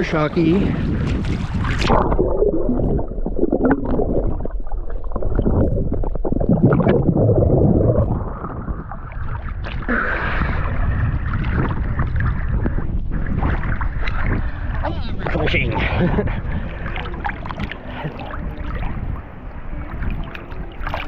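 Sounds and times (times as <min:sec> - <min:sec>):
water splashing: 0:00.0 - 0:15.9, 0:16.5 - 0:21.0
underwater gurgling and sloshing: 0:00.0 - 0:21.0.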